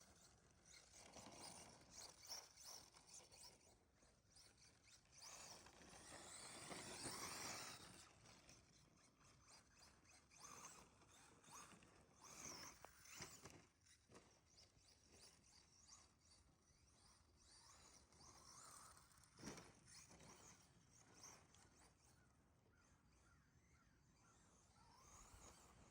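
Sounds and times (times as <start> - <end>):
toy truck motor whine: 0.0 - 22.1.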